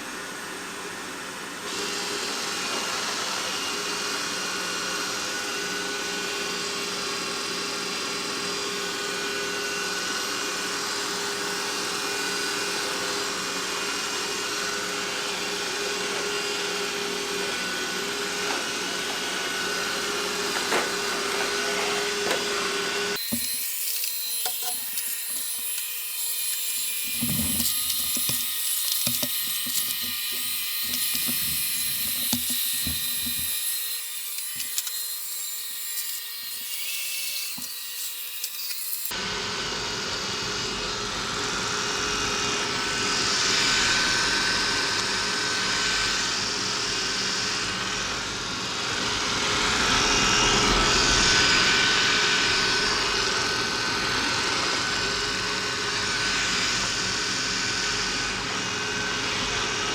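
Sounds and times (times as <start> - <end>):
robot vacuum motor whine: 0.0 - 59.9.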